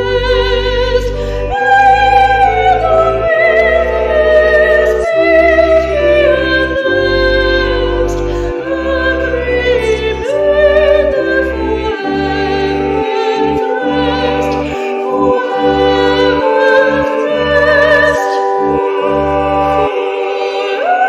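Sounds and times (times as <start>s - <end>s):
person singing with vibrato: 0.0s - 21.0s
sustained accompaniment: 0.0s - 21.0s.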